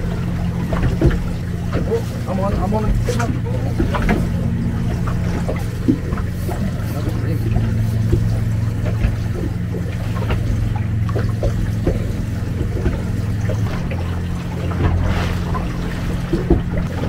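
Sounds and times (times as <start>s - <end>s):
outboard motor idling: 0.0s - 17.0s
water lapping against hull: 0.0s - 17.0s.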